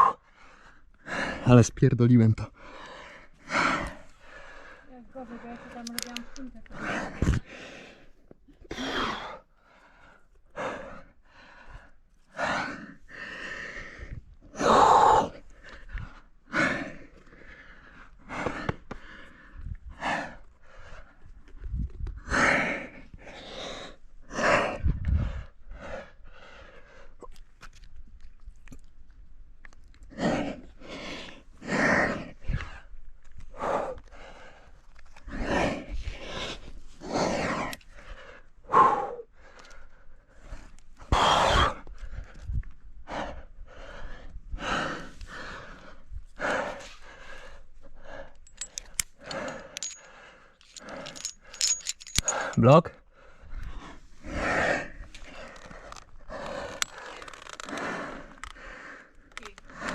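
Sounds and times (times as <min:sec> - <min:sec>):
person breathing hard: 0:00.0 - 0:01.5, 0:02.5 - 0:27.2, 0:30.1 - 0:59.9.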